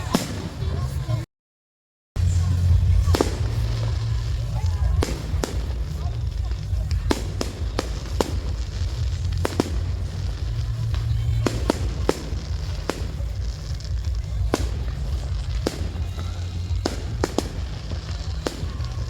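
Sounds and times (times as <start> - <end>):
fireworks bangs: 0.0 - 1.2, 2.2 - 19.0
constant low rumble: 2.2 - 19.0.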